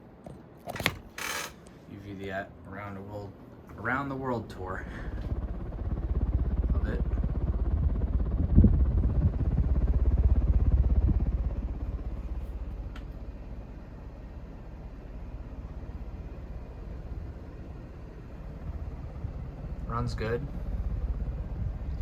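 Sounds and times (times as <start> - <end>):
fan air buffeting microphone: 0.0 - 22.0.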